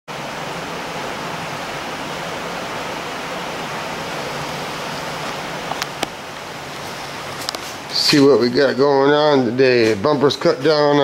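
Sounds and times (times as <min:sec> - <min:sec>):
steady rushing hiss: 0:00.1 - 0:11.0.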